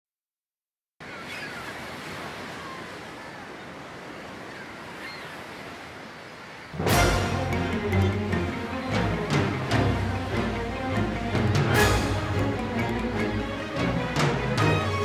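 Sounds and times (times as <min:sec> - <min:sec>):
ocean waves washing in: 0:01.0 - 0:15.0.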